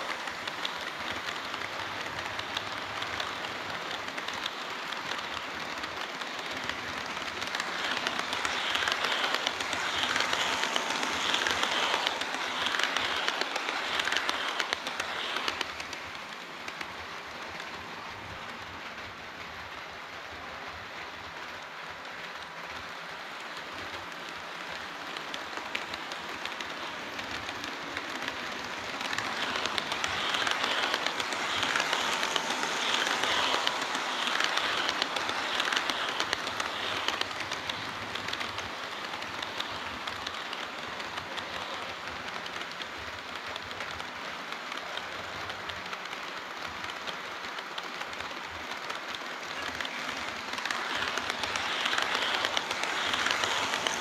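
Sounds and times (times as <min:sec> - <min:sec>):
model train running on track: 0:00.0 - 0:54.0.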